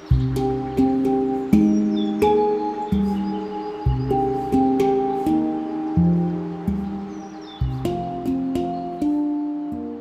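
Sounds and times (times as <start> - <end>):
soft sustained background music: 0.0 - 10.0.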